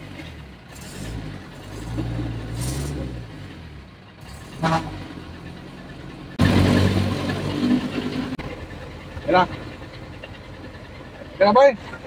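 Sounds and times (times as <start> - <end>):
engine starting and running: 0.0 - 12.0.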